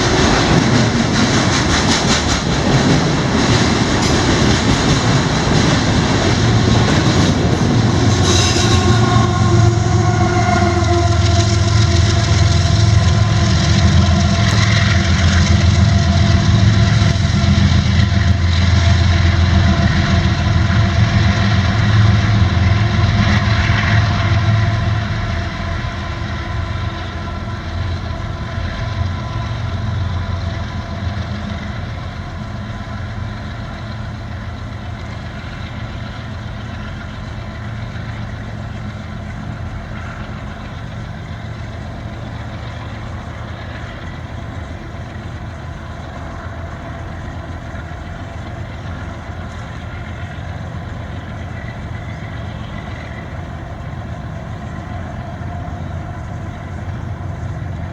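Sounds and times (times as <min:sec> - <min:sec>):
freight train rumbling: 0:00.0 - 0:57.9.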